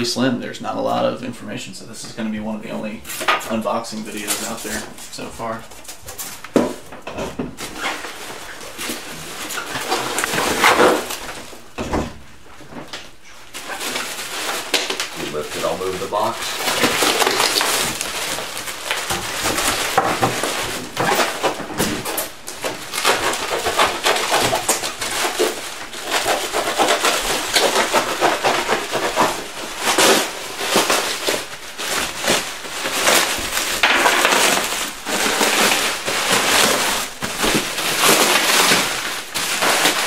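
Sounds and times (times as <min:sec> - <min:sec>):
bubble wrap crinkling: 0:02.6 - 0:11.8, 0:12.8 - 0:40.0.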